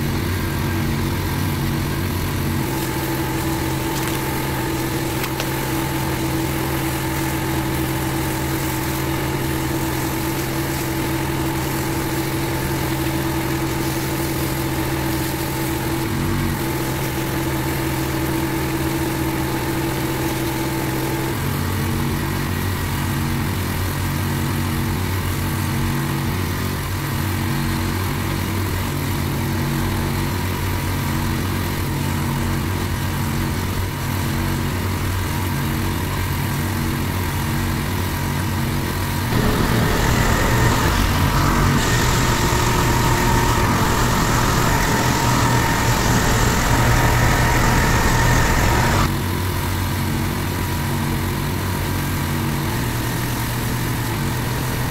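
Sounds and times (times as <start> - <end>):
pressure washer engine running: 0.0 - 54.9.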